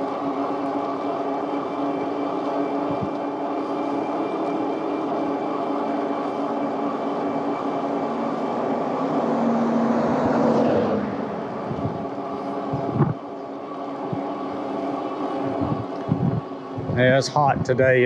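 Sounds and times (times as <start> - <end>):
electric bike motor whining: 0.0 - 18.0
road and air noise: 0.0 - 18.0.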